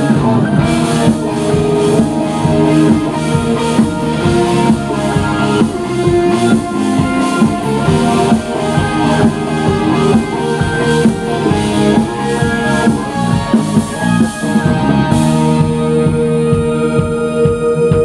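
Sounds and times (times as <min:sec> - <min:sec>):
held electric guitar chords: 0:00.0 - 0:18.0
live rock band playing: 0:00.0 - 0:18.0
steady drum beat: 0:00.0 - 0:18.0.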